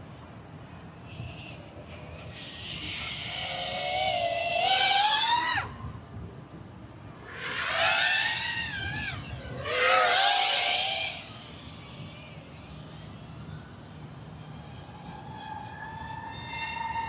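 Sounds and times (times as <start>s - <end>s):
wind rumble on microphone: 0.0s - 17.0s
drone motors whining: 1.1s - 5.8s, 7.2s - 17.0s.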